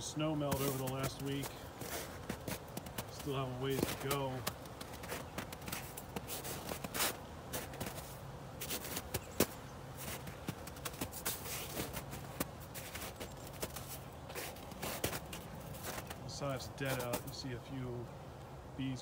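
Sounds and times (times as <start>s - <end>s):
footsteps on dry leaves: 0.4s - 17.3s.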